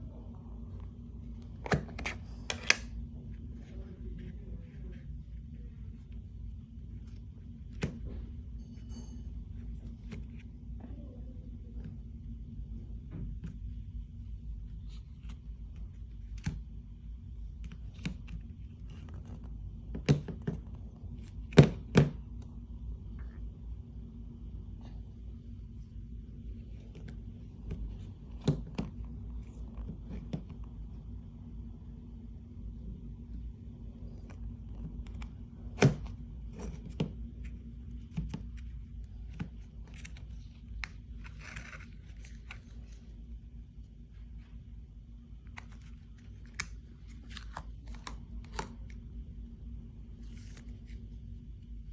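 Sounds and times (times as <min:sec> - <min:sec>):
low steady hum: 0:00.0 - 0:51.9.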